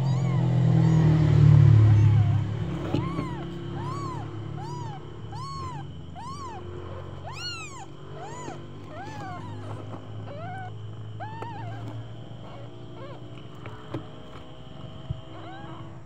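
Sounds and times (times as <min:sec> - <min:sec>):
kitten mewing: 0:00.0 - 0:13.7, 0:15.3 - 0:15.9.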